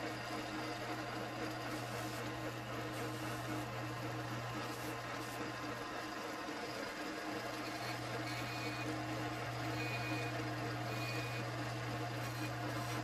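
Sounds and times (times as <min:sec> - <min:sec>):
belt sander running: 0:00.0 - 0:13.0.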